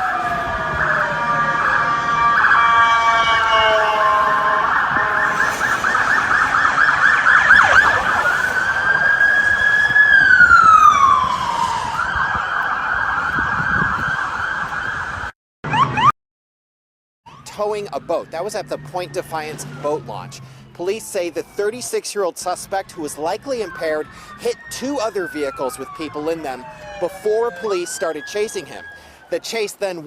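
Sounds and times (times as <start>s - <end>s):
police sirens wailing: 0.0s - 16.1s, 17.3s - 30.0s.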